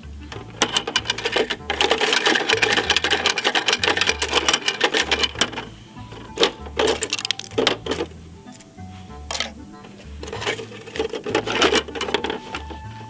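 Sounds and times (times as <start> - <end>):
background music with bass line: 0.0 - 13.0
plastic toy clicking and rattling: 0.3 - 8.7, 9.3 - 12.8.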